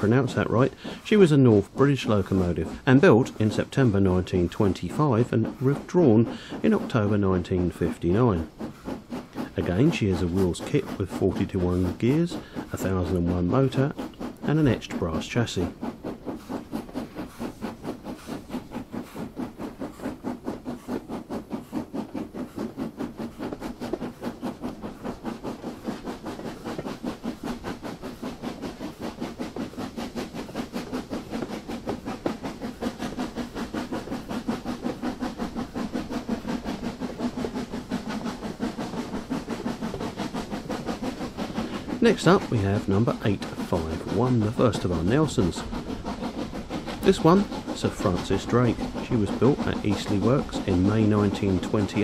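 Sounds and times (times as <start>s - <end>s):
steam hiss: 0.0s - 52.0s
steam locomotive exhaust beats: 0.0s - 52.0s.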